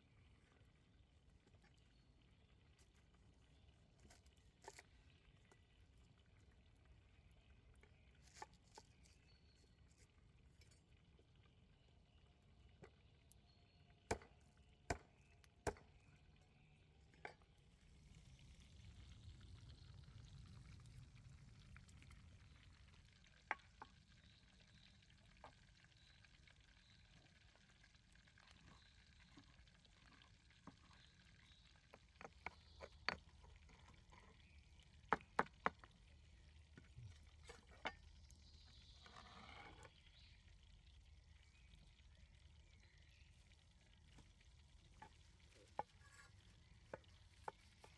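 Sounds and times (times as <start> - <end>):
faint oil frying: 0.0 - 47.9.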